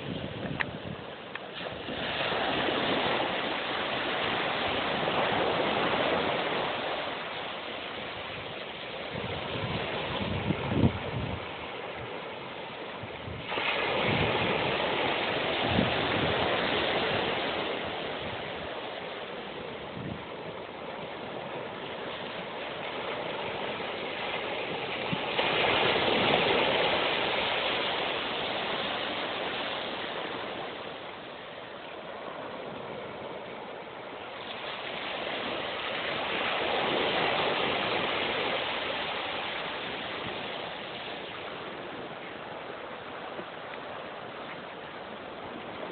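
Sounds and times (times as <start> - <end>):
waves washing up a beach: 0.0 - 45.9.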